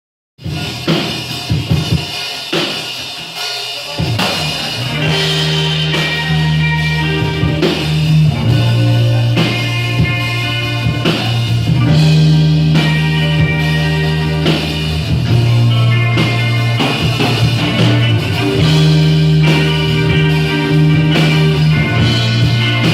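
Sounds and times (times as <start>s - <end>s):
drum kit hits: 0.4s - 22.9s
electric guitar: 0.4s - 22.9s
low bass notes: 4.1s - 22.9s.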